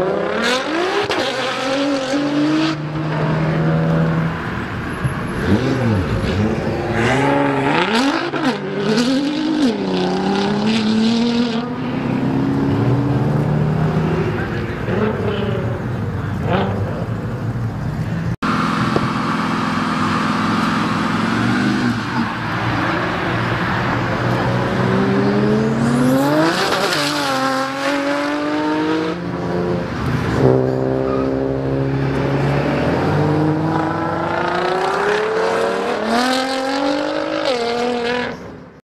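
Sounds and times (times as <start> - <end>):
car engines revving: 0.0 - 38.8.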